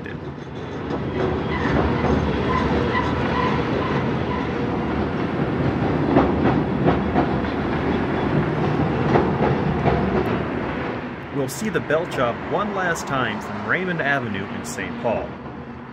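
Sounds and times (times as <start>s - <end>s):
wheels clacking over rail joints: 0.0s - 12.9s
steel wheels rumbling on rail: 0.0s - 15.9s.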